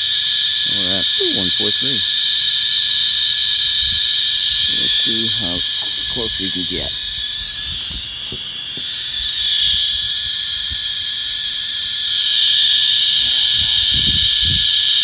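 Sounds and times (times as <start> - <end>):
geiger counter chirping: 0.0 - 15.0.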